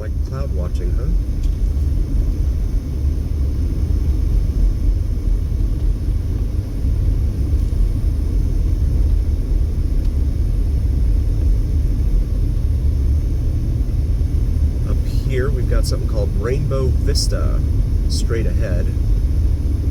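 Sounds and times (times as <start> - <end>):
car interior road and engine noise: 0.0 - 19.9.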